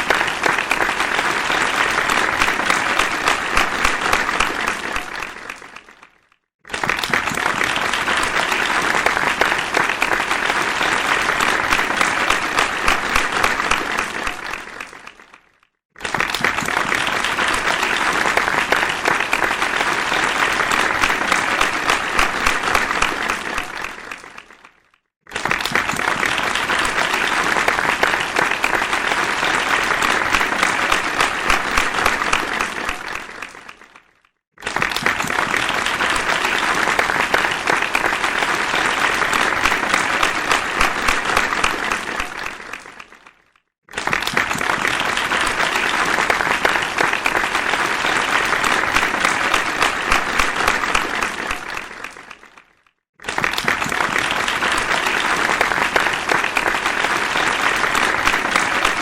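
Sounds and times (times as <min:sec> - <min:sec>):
crowd applause: 0:00.0 - 0:59.0.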